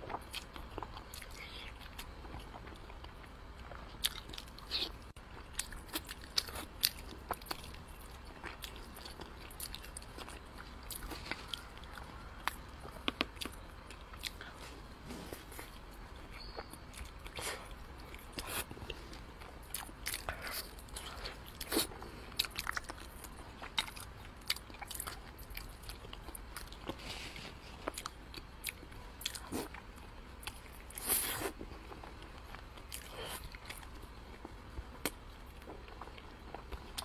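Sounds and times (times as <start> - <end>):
chewing and biting food: 0.0 - 14.6, 15.3 - 37.0.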